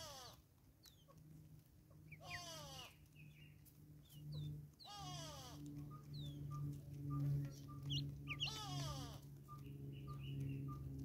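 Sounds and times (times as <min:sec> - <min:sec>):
low steady hum: 0:00.0 - 0:11.0
small birds chirping: 0:00.0 - 0:11.0
harsh falling bird calls: 0:02.0 - 0:11.0.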